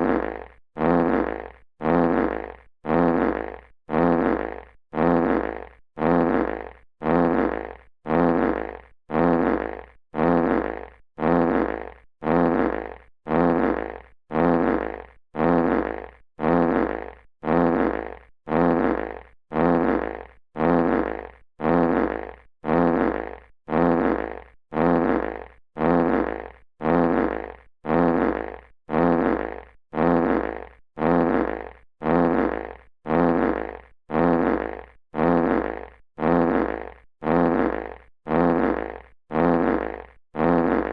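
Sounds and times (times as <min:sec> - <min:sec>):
buzzy fart sound effect: 0:00.0 - 0:40.9.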